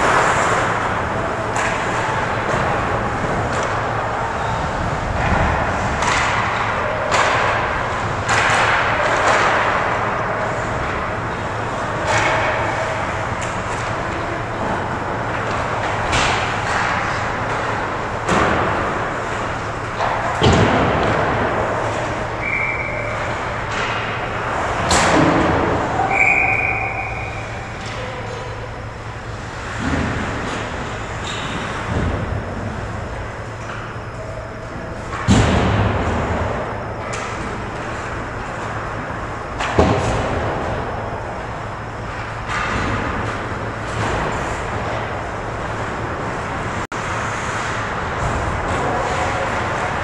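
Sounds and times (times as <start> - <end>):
hockey sticks and puck clacking: 0.0 - 28.7, 35.1 - 41.5, 42.1 - 50.0.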